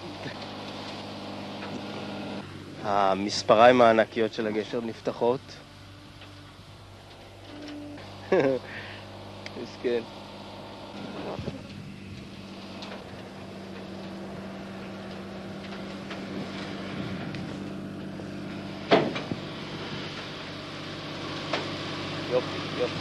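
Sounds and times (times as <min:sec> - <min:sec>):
tank engine running: 0:00.0 - 0:23.0.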